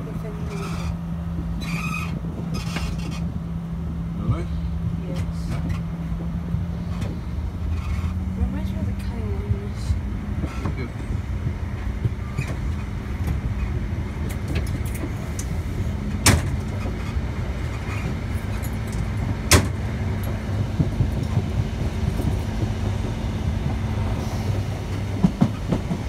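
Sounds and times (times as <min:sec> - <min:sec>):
train interior rumble: 0:00.0 - 0:26.0.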